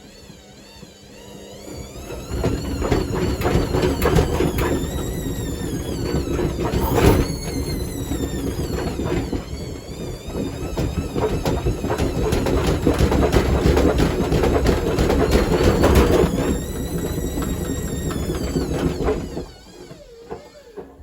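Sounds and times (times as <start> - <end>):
washing machine motor whine: 0.0 - 21.0
washing machine knocking and banging: 2.0 - 21.0.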